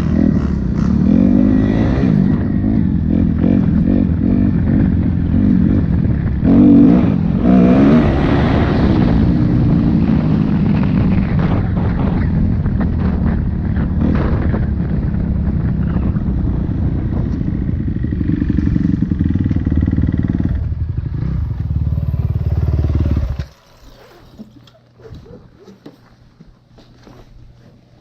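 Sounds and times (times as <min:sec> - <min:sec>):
dirt bike engine revving: 0:00.0 - 0:24.5.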